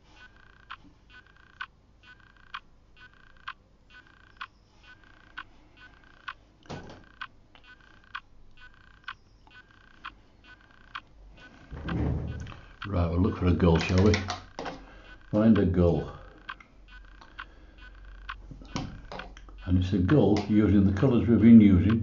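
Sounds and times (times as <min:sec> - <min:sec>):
faint regular ticking: 0:00.0 - 0:22.0.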